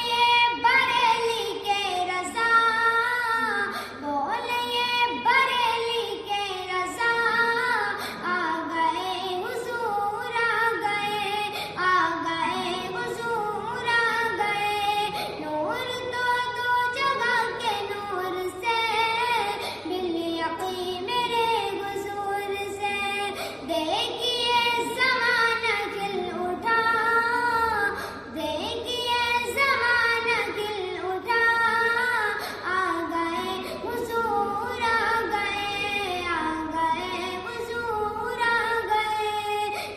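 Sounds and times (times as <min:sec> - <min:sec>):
devotional song by high voice: 0:00.0 - 0:39.9.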